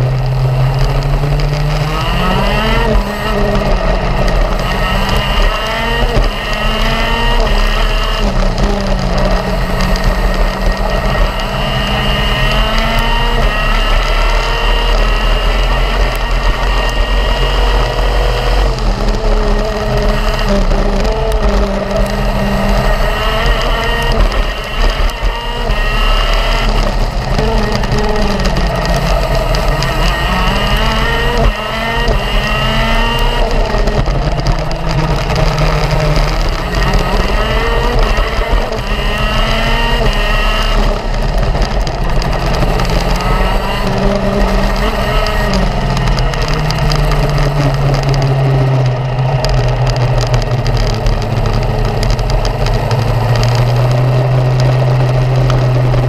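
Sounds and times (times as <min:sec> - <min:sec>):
racing kart engine revving: 0:00.0 - 0:56.0.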